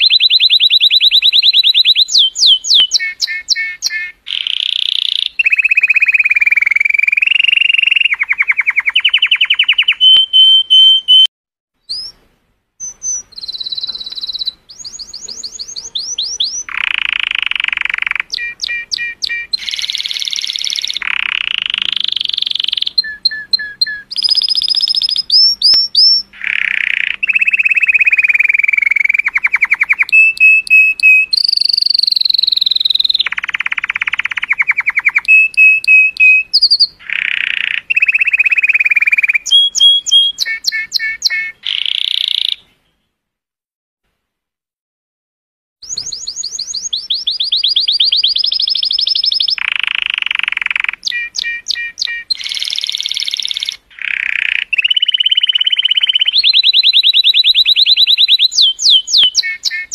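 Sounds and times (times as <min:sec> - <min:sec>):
canary singing trills: 0:00.0 - 0:12.2, 0:12.8 - 0:43.2, 0:45.8 - 0:59.9.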